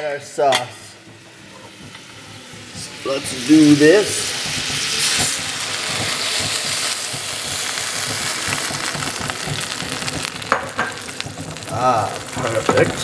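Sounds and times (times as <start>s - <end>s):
shrimp sizzling in a skillet: 0.0s - 13.0s.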